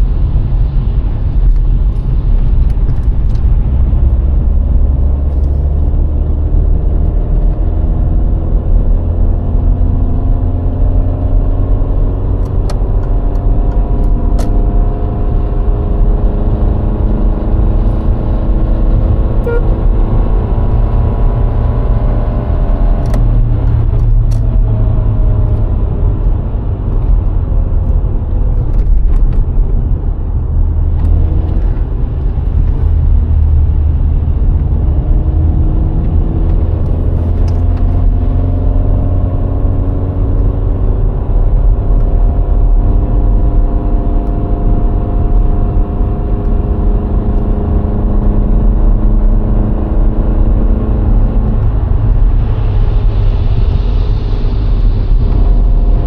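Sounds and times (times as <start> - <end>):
car engine hum: 0.0 - 56.0
road and wind noise: 0.0 - 56.0.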